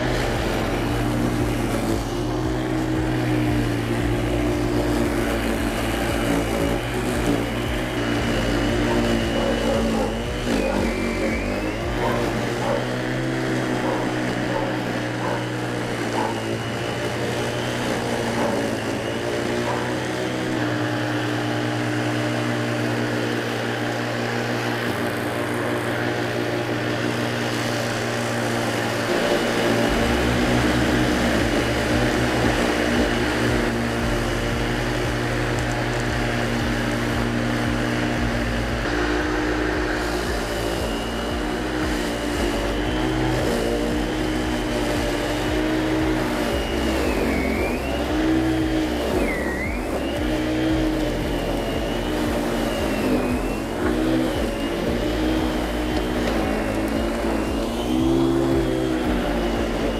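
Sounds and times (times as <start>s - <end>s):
electric lawn mower whine: 0.0s - 59.9s.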